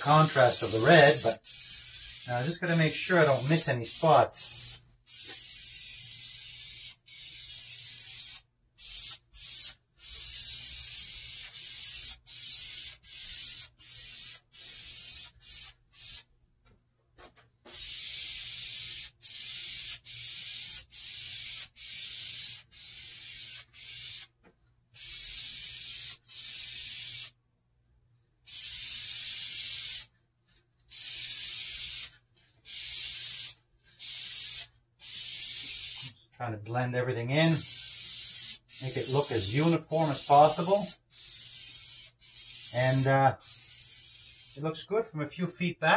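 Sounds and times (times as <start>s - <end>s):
aerosol can spraying bursts: 0.0s - 16.2s, 17.7s - 24.3s, 28.5s - 30.1s, 30.9s - 36.1s, 37.5s - 44.6s.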